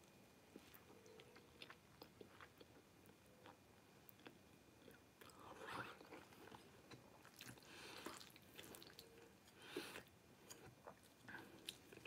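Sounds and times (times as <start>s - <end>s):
person chewing food: 0.5s - 12.0s.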